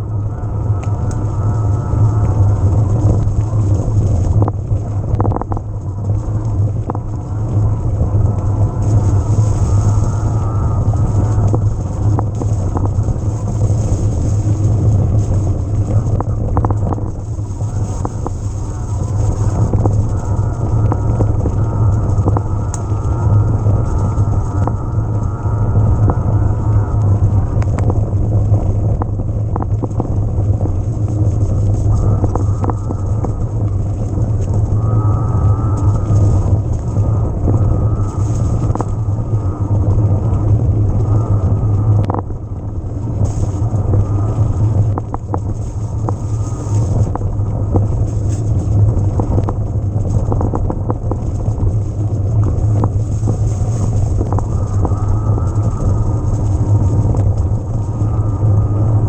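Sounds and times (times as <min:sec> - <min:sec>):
bike rumbling over rough ground: 0:00.0 - 0:59.0
wind on microphone: 0:00.0 - 0:59.0
sharp clicks and rattles: 0:00.7 - 0:58.4.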